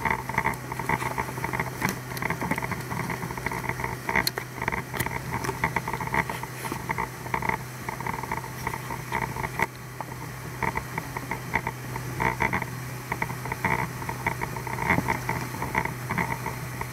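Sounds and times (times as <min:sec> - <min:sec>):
outboard motor humming: 0:00.0 - 0:16.9.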